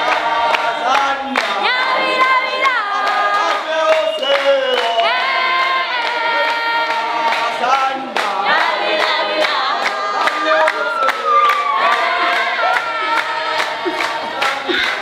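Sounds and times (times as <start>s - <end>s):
group singing in harmony: 0.0s - 15.0s
rhythmic hand claps: 0.0s - 15.0s.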